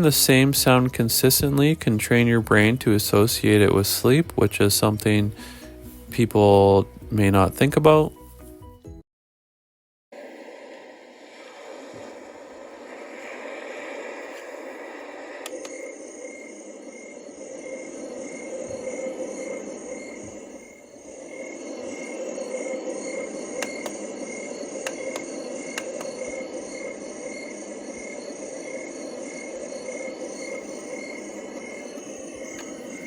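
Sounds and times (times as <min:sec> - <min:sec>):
cricket chirp pulsing: 0:00.0 - 0:08.0, 0:10.2 - 0:33.0
white noise hiss: 0:00.0 - 0:08.1, 0:10.2 - 0:33.0.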